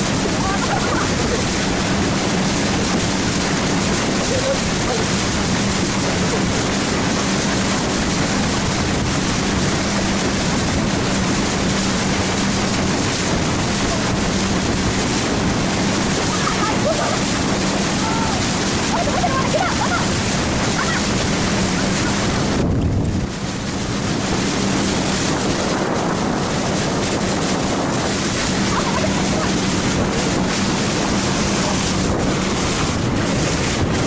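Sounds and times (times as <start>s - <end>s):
motorboat engine hum: 0.0s - 34.0s
rush of water and wind: 0.0s - 34.0s.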